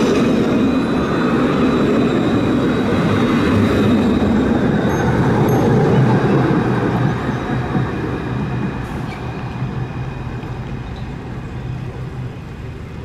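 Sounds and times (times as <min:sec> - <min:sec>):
tram running noise: 0:00.0 - 0:13.0.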